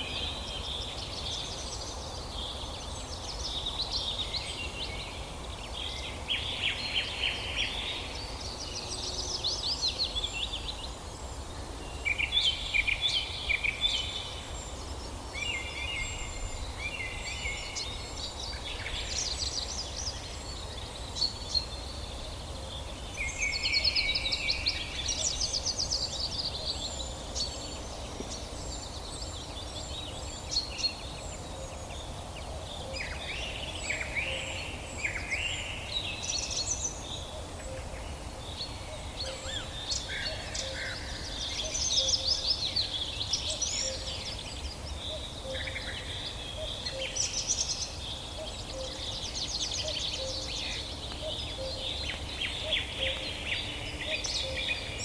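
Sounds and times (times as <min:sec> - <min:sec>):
songbirds trilling and warbling: 0:00.0 - 0:55.0
steady low background noise: 0:00.0 - 0:55.0.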